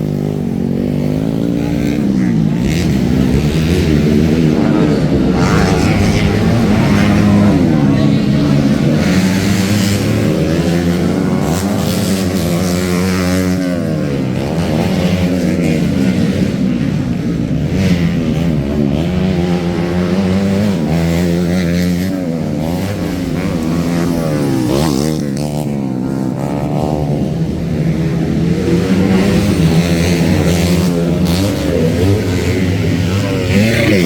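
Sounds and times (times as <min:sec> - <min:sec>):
motocross bike engines revving: 0:00.0 - 0:34.0.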